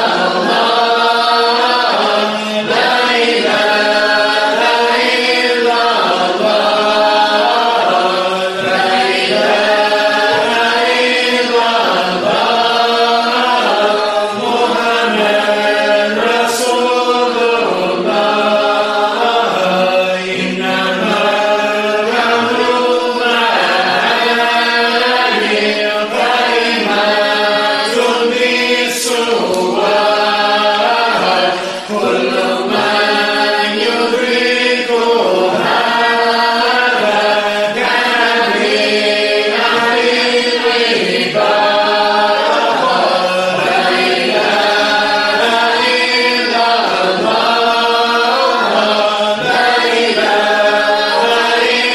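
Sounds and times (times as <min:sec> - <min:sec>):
group chanting in long held notes: 0:00.0 - 0:51.9.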